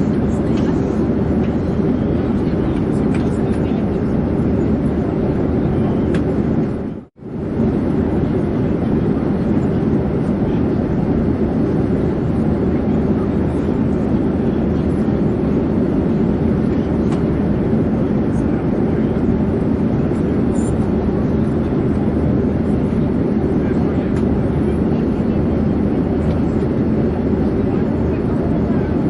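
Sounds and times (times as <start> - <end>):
airplane rumble in flight: 0.0 - 29.0.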